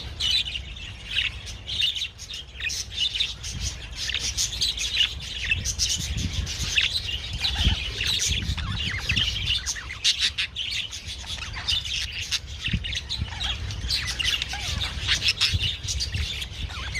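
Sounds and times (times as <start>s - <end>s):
budgerigars chattering: 0.0s - 16.9s.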